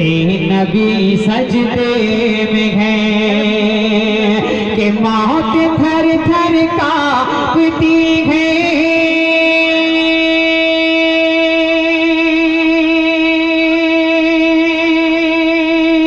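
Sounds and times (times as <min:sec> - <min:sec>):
man singing through loudspeaker: 0:00.0 - 0:16.0.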